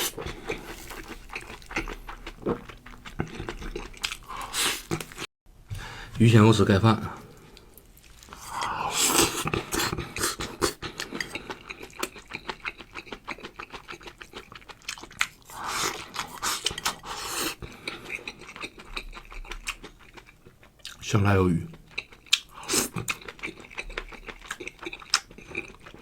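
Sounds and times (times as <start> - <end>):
wet chewing and smacking: 0.0 - 5.3, 7.8 - 21.0, 21.7 - 26.0.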